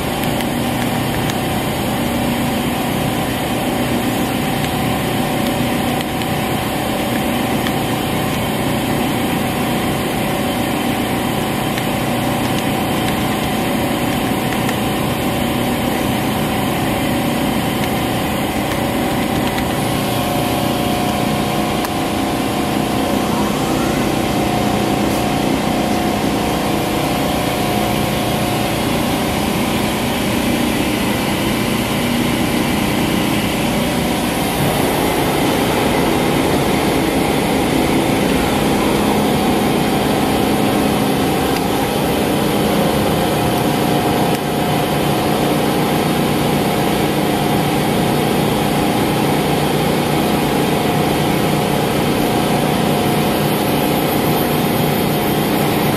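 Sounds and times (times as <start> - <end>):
machine hum with steady tones: 0.0 - 55.9.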